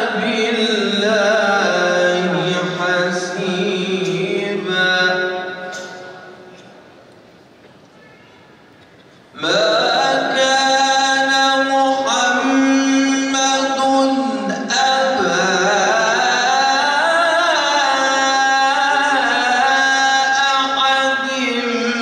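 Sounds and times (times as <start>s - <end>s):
man reciting melodically: 0.0s - 6.5s, 9.3s - 22.0s.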